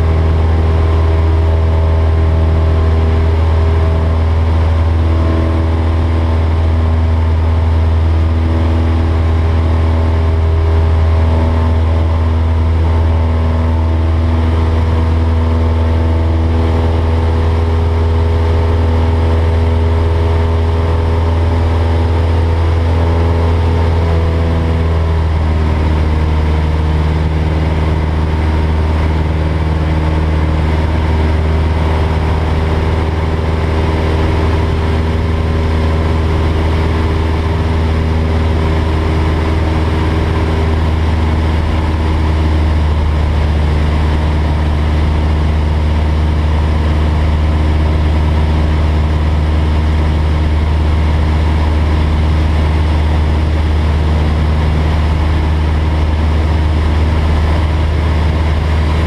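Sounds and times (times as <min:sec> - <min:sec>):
light aircraft engine in cabin: 0:00.0 - 0:59.0
wind noise: 0:00.0 - 0:59.0.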